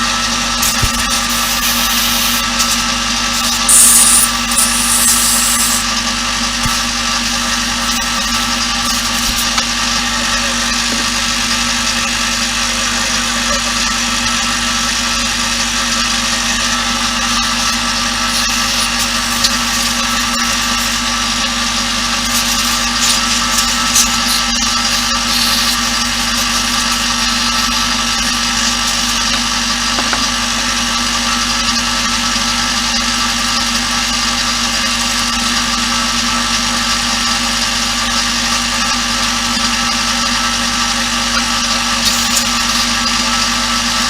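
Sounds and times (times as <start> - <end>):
electric machine humming: 0.0 - 36.4.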